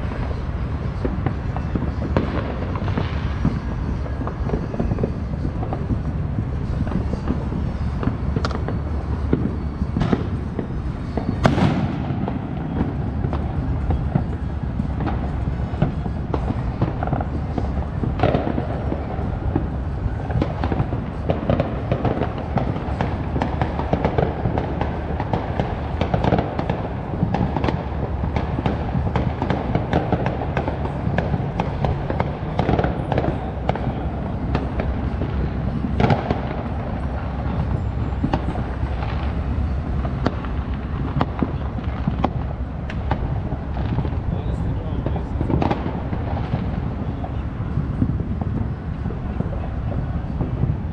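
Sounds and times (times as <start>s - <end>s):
fireworks and firecrackers banging: 0.0s - 50.9s.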